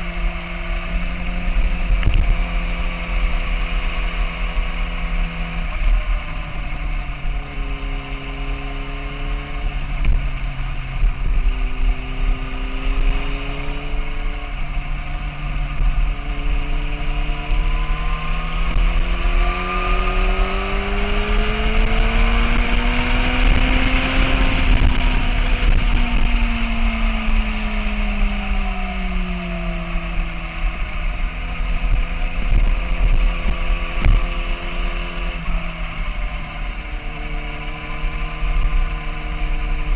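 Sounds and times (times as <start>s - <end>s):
motorcycle engine revving: 0.0s - 39.9s
wind rush on microphone: 5.3s - 39.9s.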